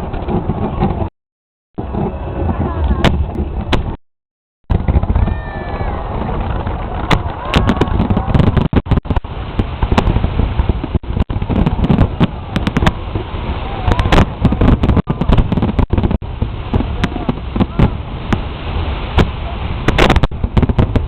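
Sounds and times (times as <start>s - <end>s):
firework bangs and crackles: 0.0s - 1.1s, 1.8s - 4.0s, 4.6s - 21.0s
low rumble: 1.8s - 4.0s, 4.7s - 21.0s.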